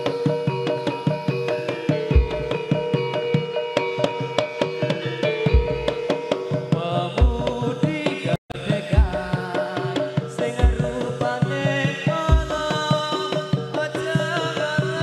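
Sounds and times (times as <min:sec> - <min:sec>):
drums beating quick rhythm: 0:00.0 - 0:15.0
held melodic tones: 0:00.0 - 0:15.0.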